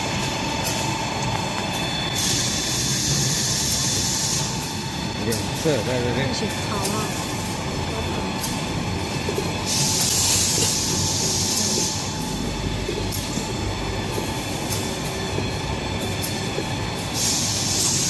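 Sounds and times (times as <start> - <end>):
production line machinery rumble: 0.0 - 18.0.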